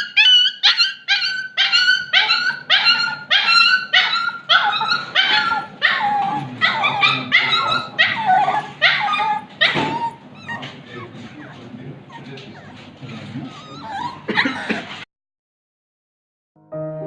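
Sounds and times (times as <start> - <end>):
dog yelping: 0.0 - 15.0.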